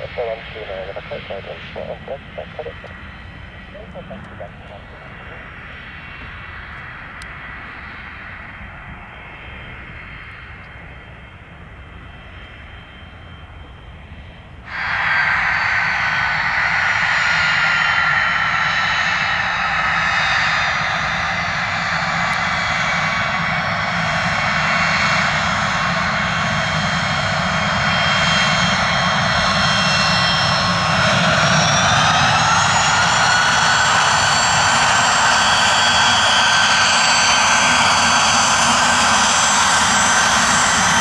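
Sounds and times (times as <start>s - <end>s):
jet engines whining: 0.0s - 41.0s.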